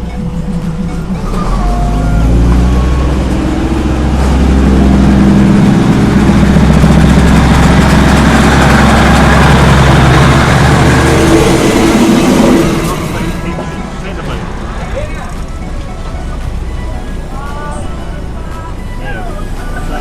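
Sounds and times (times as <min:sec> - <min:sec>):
diesel train engine running: 0:00.0 - 0:20.0.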